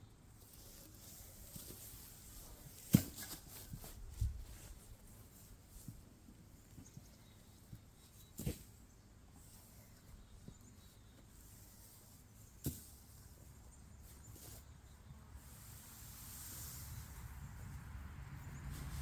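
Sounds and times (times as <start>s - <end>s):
dry hay rustling: 0.4s - 19.0s.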